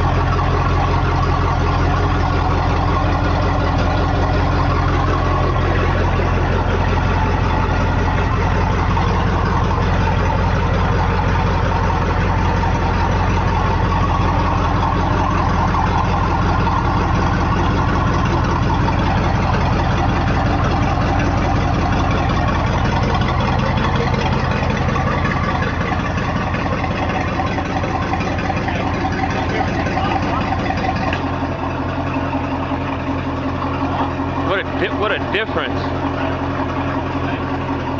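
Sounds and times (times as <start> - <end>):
boat engine idling: 0.0 - 37.9.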